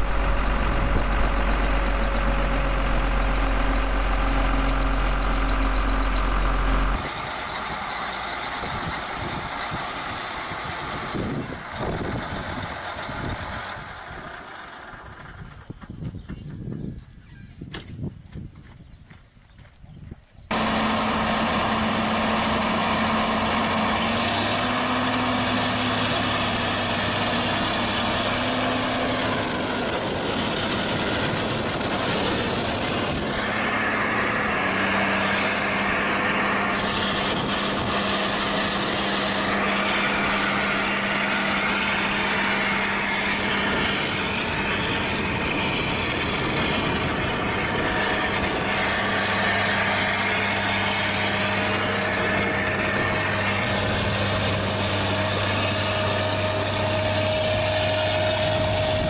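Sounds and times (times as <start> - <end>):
tractor diesel engine under load: 0.0 - 17.2, 20.5 - 59.0.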